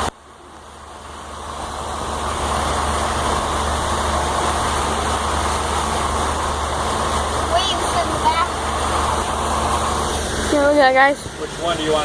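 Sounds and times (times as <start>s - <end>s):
motorboat engine hum: 0.0s - 12.0s
rush of water and air: 0.0s - 12.0s.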